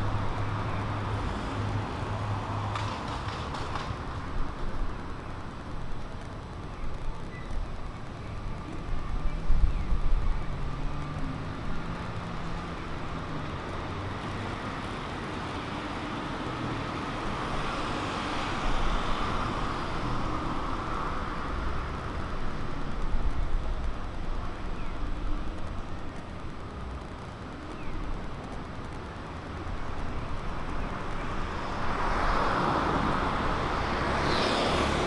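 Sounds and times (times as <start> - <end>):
cars passing: 0.0 - 6.7, 7.9 - 35.0
low traffic rumble: 0.0 - 35.0.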